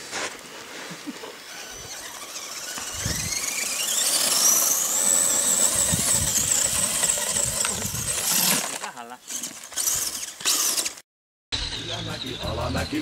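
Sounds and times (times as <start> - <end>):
wheels spinning in sand: 0.0 - 11.0
rc car motor whining: 0.4 - 11.0, 11.6 - 13.0.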